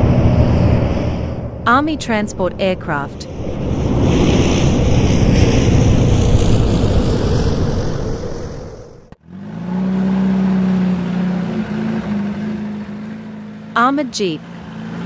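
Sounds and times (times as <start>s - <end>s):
large aircraft roar passing: 0.0s - 15.0s
vehicle engine humming: 0.0s - 15.0s.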